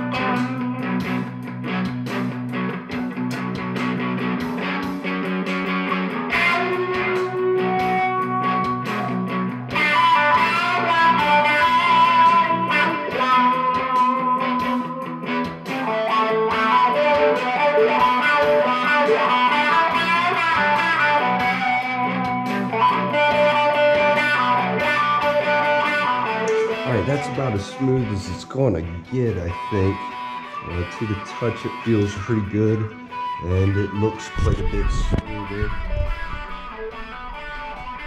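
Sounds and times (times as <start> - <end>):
electric guitar music with beat: 0.0 - 38.0.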